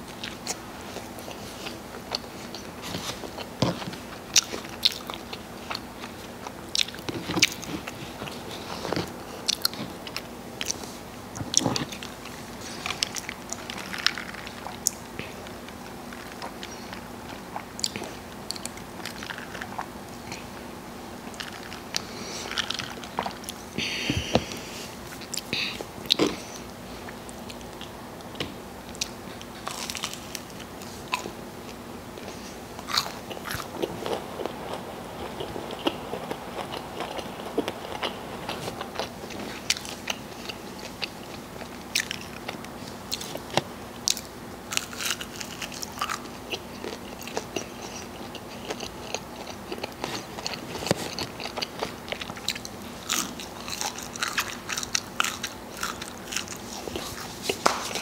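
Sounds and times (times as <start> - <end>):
crunchy food chewing: 0.0 - 58.0.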